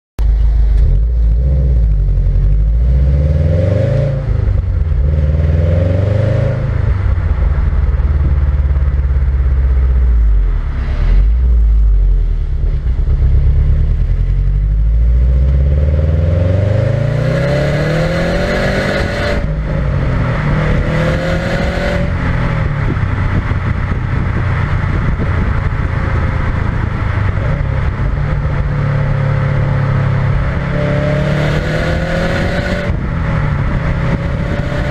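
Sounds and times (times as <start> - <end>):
road noise: 0.2 - 34.9
car engine revving while driving: 0.5 - 34.9.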